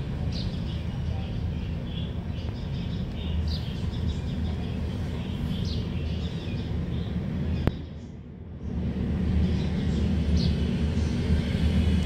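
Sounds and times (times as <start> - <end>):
small birds chirping: 0.0 - 8.4, 9.4 - 12.0
steady low rumble: 0.0 - 12.0.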